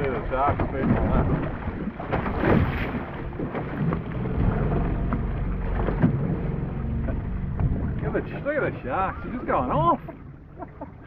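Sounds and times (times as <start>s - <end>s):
water sloshing and splashing: 0.0s - 11.0s
wind rumbling on microphone: 0.0s - 11.0s.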